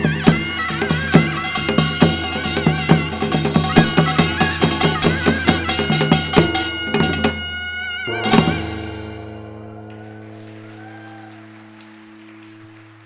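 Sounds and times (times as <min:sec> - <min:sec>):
traditional music ensemble: 0:00.0 - 0:12.5.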